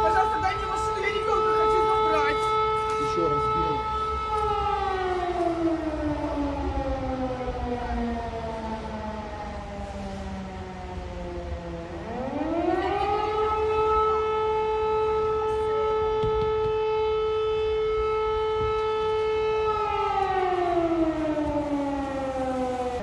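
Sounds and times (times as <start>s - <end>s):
siren wailing: 0.0s - 23.0s.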